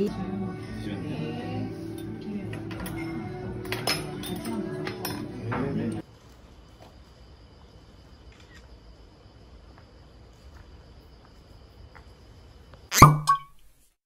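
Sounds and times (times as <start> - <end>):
crickets chirping: 0.1 - 13.4.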